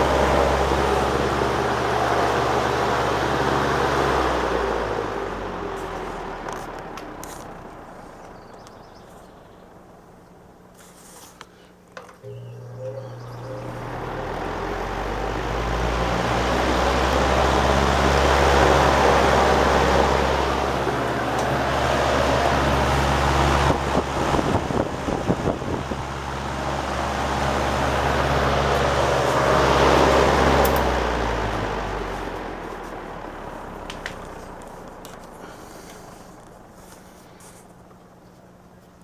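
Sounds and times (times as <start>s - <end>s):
fan air rushing: 0.0s - 7.9s, 9.3s - 39.0s
fan motor hum: 0.0s - 39.0s.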